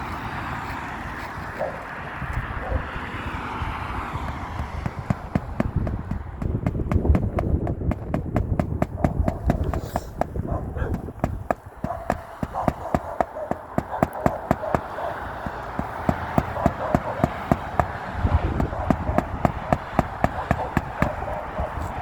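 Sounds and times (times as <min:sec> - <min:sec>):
rapid tapping and clicking: 0:04.1 - 0:22.0.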